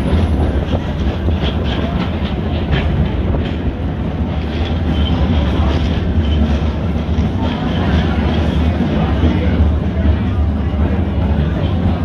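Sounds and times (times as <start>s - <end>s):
steel wheels rumbling on rail: 0.0s - 12.0s.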